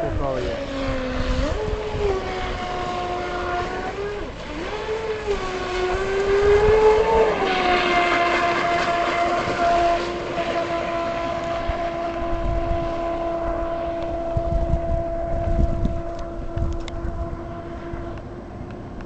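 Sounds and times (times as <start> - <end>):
electric motor high whine: 0.0 - 19.0.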